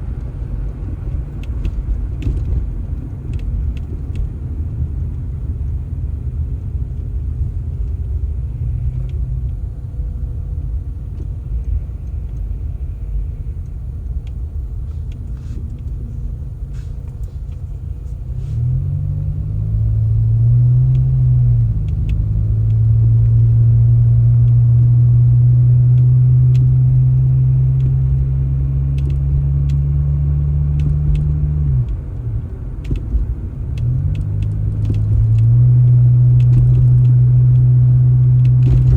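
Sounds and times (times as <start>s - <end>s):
vehicle engine rumbling and revving: 0.0s - 38.9s.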